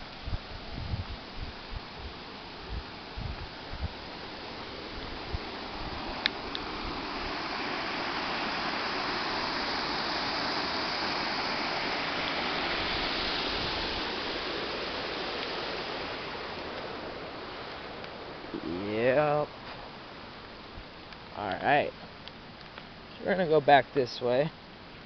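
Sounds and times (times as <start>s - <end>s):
water rushing over dam: 1.2s - 21.9s.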